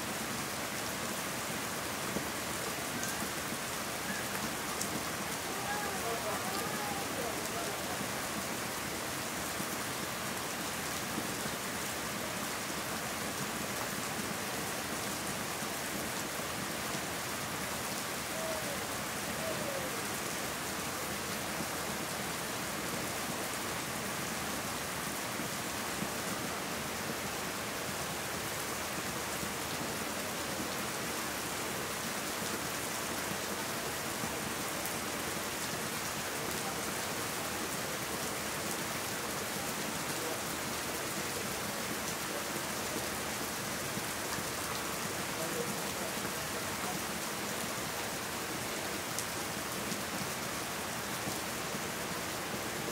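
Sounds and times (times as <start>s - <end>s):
rain falling on plants: 0.0s - 52.9s.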